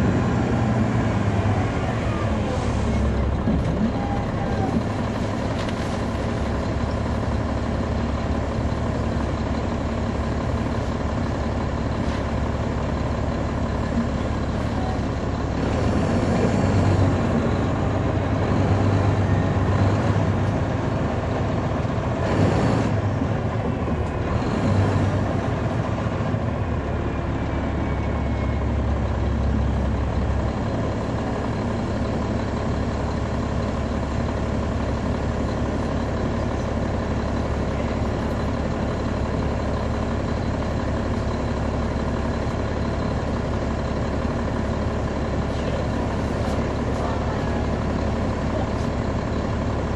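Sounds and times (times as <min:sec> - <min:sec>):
diesel bus engine running: 0:00.0 - 0:49.9.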